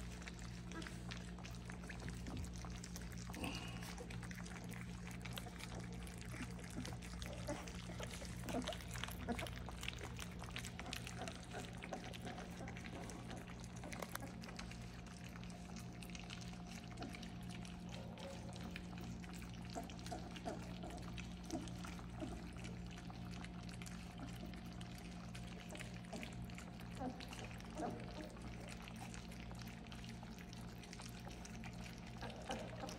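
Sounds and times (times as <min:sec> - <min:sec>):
low steady hum: 0:00.0 - 0:32.9
puppies lapping wet food: 0:00.0 - 0:32.9.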